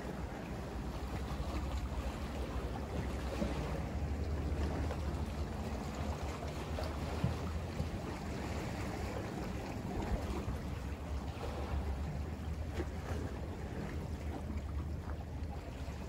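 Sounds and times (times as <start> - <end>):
sea waves: 0.0 - 16.0.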